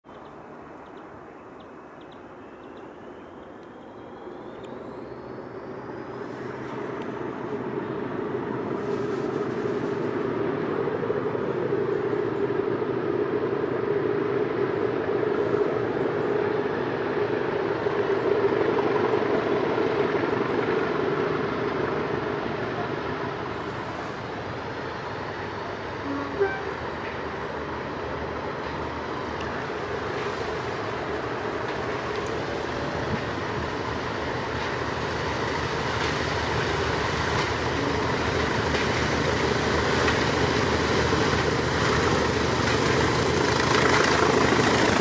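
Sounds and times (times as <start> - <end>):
diesel locomotive engine: 0.0 - 45.0.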